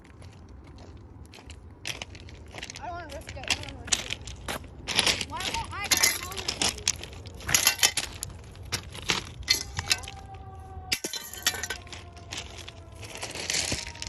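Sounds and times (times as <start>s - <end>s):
footsteps crunching on gravel: 0.0s - 10.4s, 11.0s - 14.0s
stones clicking underfoot: 0.2s - 14.0s.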